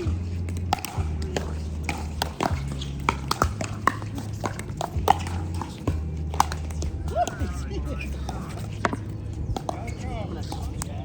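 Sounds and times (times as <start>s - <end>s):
paddles striking plastic ball: 0.0s - 11.0s.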